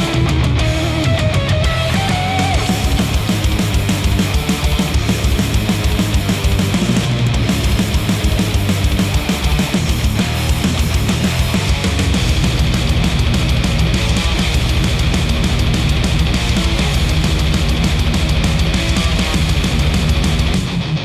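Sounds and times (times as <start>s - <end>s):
heavy rock music through headphones: 0.0s - 21.0s.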